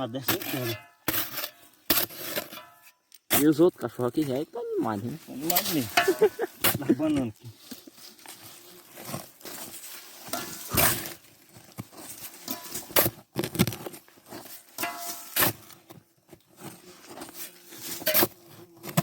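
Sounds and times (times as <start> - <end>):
digging in hard earth: 0.0 - 19.0.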